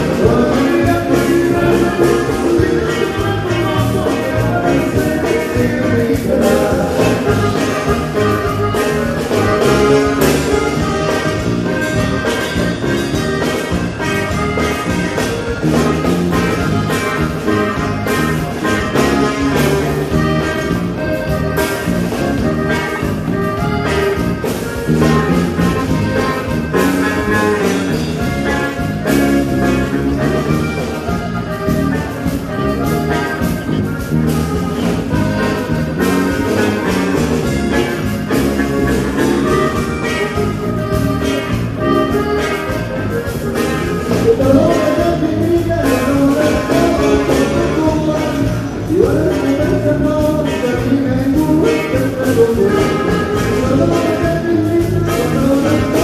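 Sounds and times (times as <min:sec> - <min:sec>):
cumbia band playing: 0:00.0 - 0:56.0.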